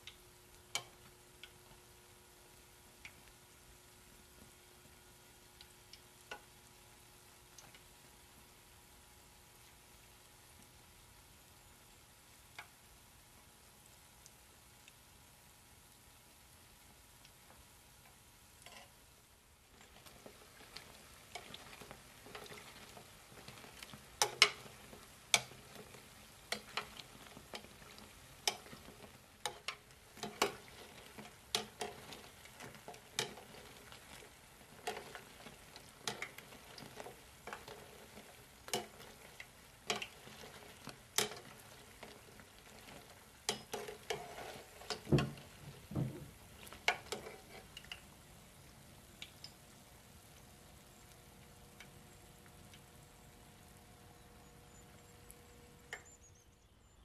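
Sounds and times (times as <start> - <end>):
fritters sizzling in oil: 0.0 - 57.0.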